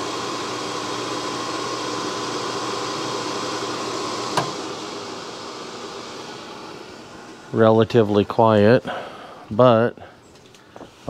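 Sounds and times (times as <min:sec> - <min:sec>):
motor hum with fan whir: 0:00.0 - 0:11.0.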